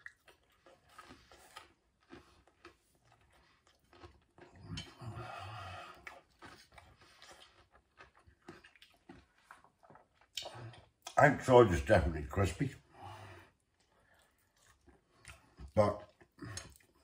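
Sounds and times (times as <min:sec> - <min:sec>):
chewing crispy food: 0:00.0 - 0:17.0.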